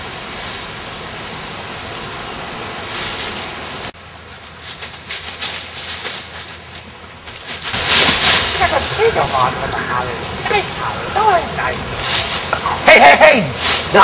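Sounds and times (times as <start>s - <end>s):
rustling of dry leaves: 0.0s - 14.0s.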